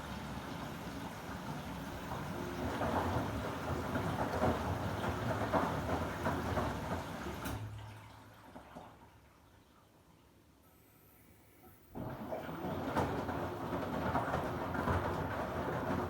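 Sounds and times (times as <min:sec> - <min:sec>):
water sloshing in washing machine: 0:00.0 - 0:10.2, 0:11.9 - 0:16.0.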